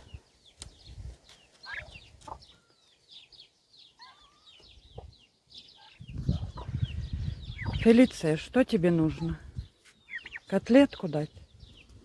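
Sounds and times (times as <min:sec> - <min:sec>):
chicks peeping: 0:00.0 - 0:12.0
lower calls of grown birds: 0:00.0 - 0:12.0.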